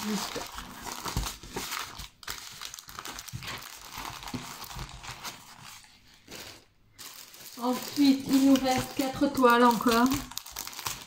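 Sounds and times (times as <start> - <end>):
plastic packaging rustling and crinkling: 0.0 - 11.0.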